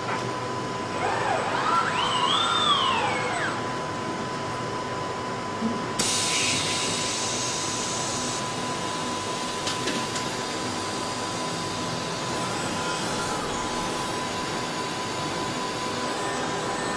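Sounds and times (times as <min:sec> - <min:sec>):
factory machinery running: 0:00.0 - 0:16.9.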